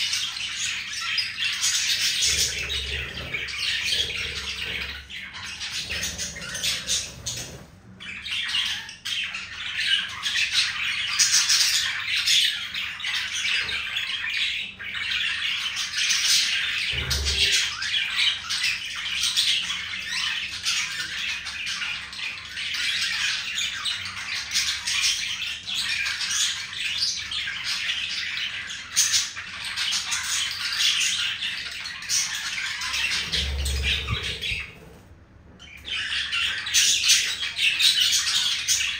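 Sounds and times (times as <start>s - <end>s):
budgerigars chattering: 0.0s - 35.0s, 35.6s - 38.9s.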